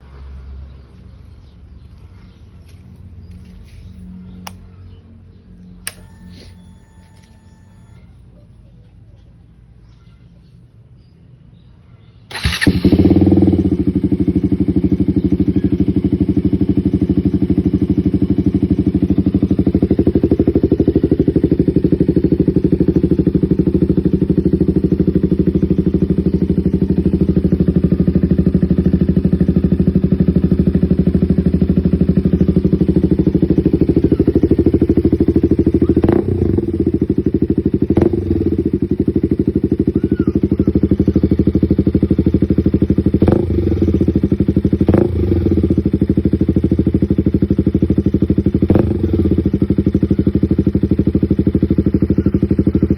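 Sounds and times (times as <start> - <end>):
motorcycle engine starting and idling: 2.6 - 8.5, 12.2 - 52.9.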